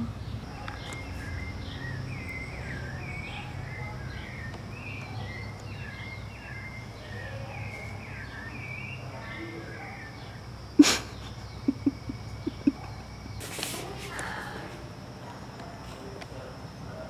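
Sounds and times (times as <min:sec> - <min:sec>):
small birds chirping: 0:00.0 - 0:14.7
steady high hiss: 0:00.0 - 0:17.0.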